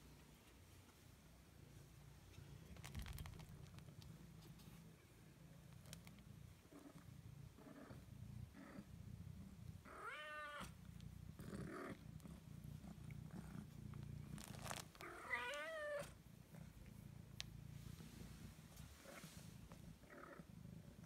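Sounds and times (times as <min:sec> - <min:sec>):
cat purring: 0:01.5 - 0:21.0.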